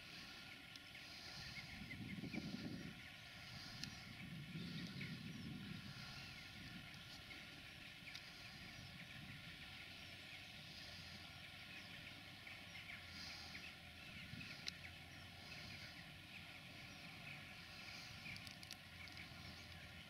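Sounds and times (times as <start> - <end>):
distant tractor engine hum: 0.0 - 20.0
small birds chirping: 0.0 - 20.0.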